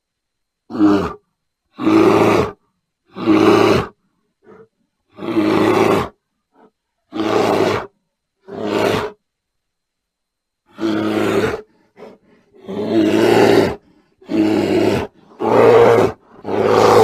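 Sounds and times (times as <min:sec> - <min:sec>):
bear roaring: 0:00.7 - 0:06.2, 0:07.1 - 0:09.2, 0:10.7 - 0:17.0.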